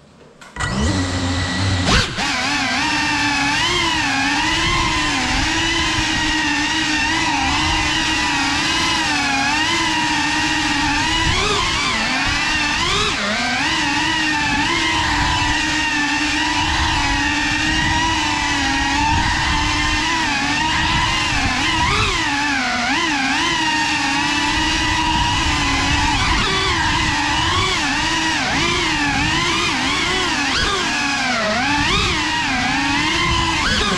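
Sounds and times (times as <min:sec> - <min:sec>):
drone propellers buzzing: 0:00.4 - 0:33.9.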